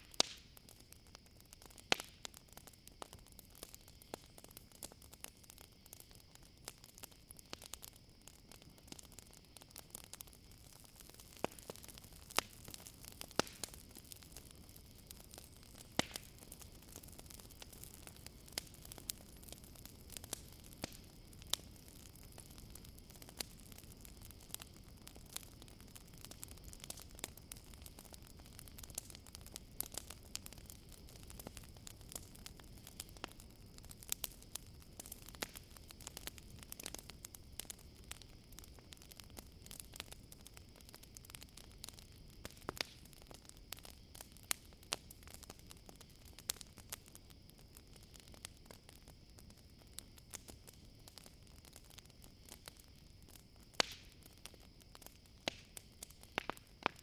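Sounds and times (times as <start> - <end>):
campfire crackling and popping: 0.0 - 57.0
crickets chirping: 0.4 - 57.0.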